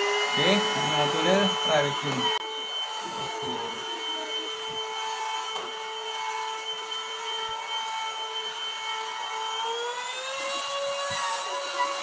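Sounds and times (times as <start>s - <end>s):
stick vacuum cleaner running: 0.0s - 12.0s.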